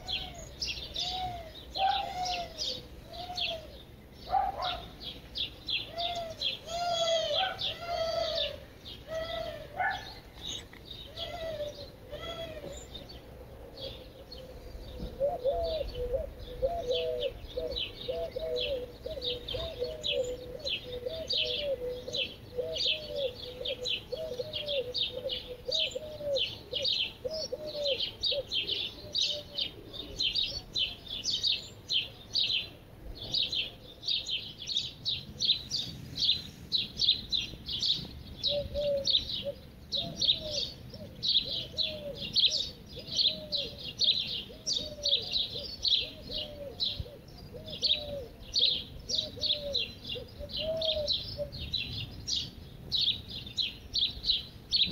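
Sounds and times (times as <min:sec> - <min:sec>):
lower bird call: 0:00.0 - 0:54.9
many birds chirping: 0:00.0 - 0:54.9.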